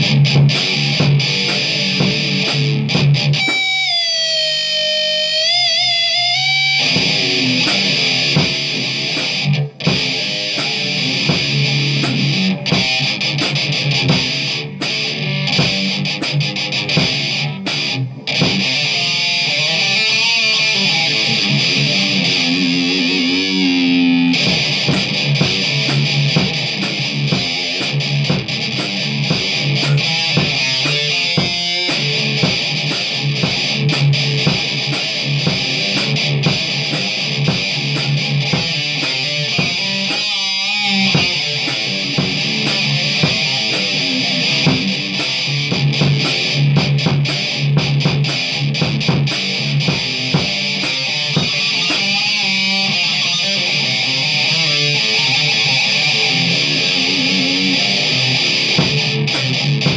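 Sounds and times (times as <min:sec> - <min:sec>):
heavy metal electric guitar shred: 0:00.0 - 0:59.9.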